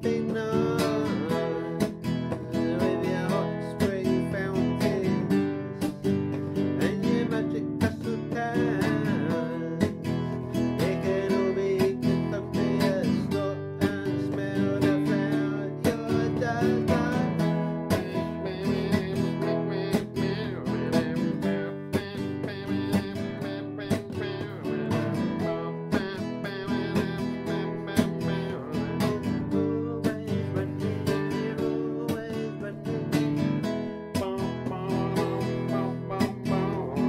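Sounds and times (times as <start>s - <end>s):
strummed acoustic guitar music: 0.0s - 37.0s.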